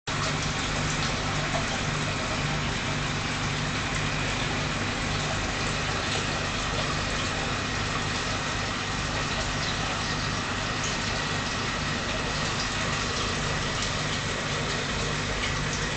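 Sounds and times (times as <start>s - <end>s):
aquarium pump hum: 0.1s - 15.9s.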